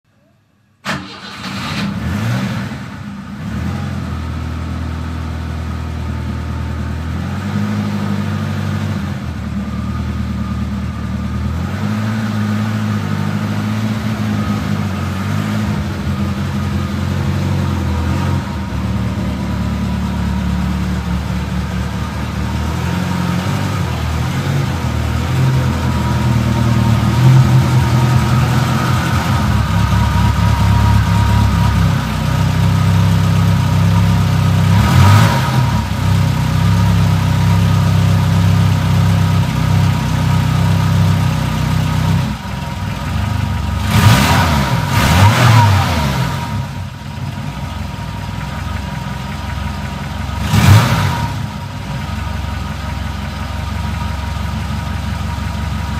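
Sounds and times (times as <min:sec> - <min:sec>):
car engine starting and idling: 0:00.7 - 0:55.9.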